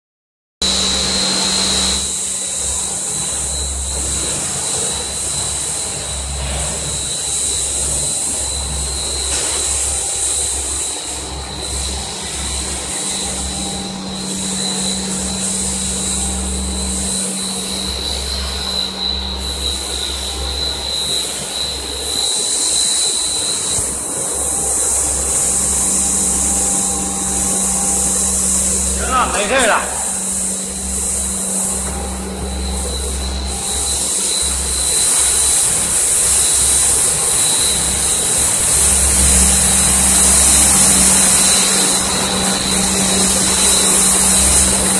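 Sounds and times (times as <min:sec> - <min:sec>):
machinery humming and whining: 0:00.6 - 0:44.9.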